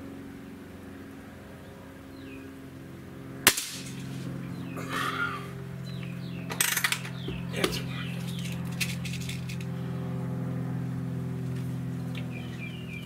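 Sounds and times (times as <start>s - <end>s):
steady low hum: 0.0s - 13.0s
birds chirping: 1.5s - 13.0s.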